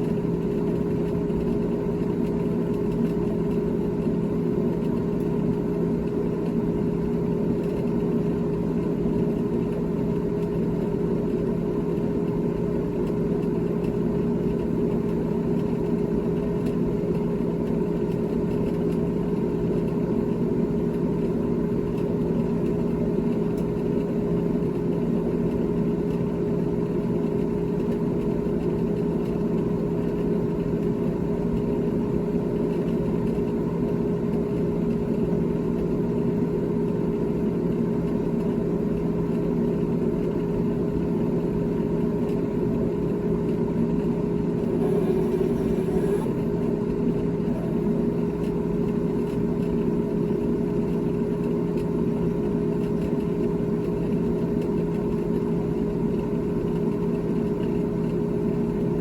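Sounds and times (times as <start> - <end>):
refrigerator humming: 0.0 - 59.0.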